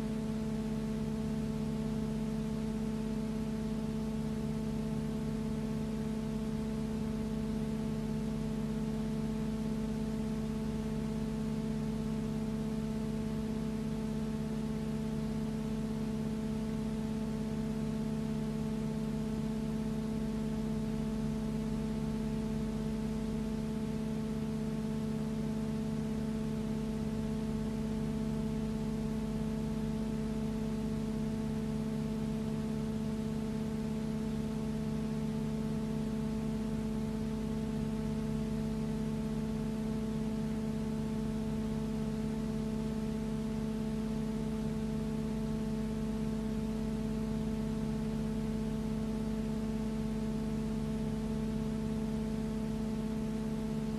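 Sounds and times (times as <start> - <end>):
steady multi-tone hum: 0.0 - 53.9.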